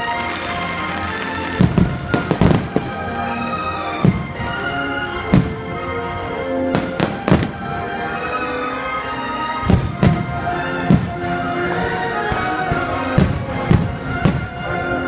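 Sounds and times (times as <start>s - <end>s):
fireworks booming: 0.0s - 6.0s, 6.7s - 8.0s, 9.6s - 15.0s.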